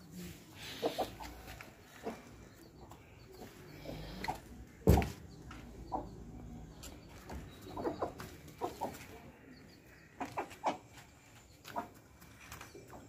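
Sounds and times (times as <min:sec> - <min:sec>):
hen clucking: 0:00.0 - 0:12.1.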